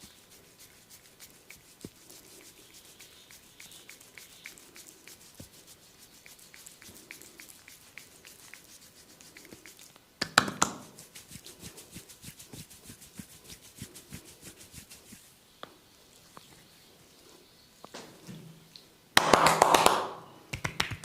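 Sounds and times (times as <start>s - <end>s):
hands patting on skin: 0.0s - 15.3s, 19.2s - 21.0s.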